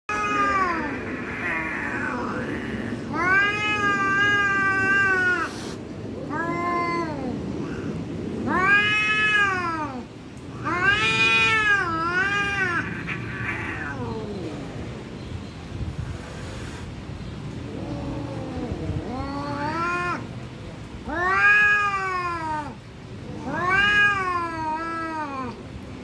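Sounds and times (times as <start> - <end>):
cats yowling: 0.1 - 15.0, 17.5 - 20.4, 21.0 - 25.7.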